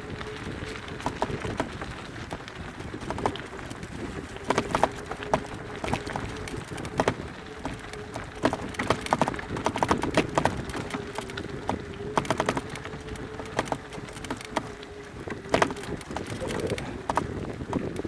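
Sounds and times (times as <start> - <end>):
mountain bike rattling on rocks: 0.0 - 18.0.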